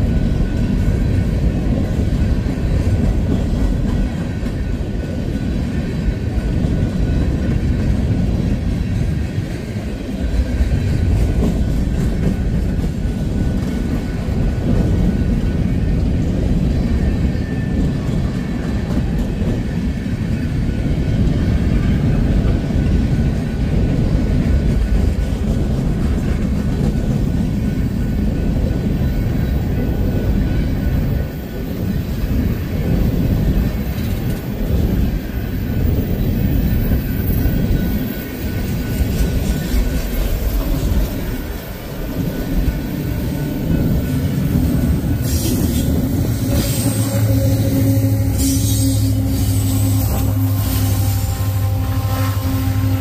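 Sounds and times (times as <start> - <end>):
locomotive engine hum: 0.0 - 53.0
steel wheels rumbling on rails: 0.0 - 53.0.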